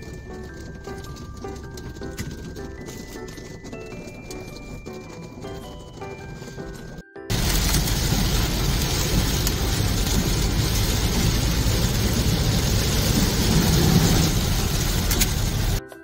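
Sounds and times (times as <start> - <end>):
car road and engine noise: 0.0 - 15.8
heavy rain on car roof: 0.0 - 15.8.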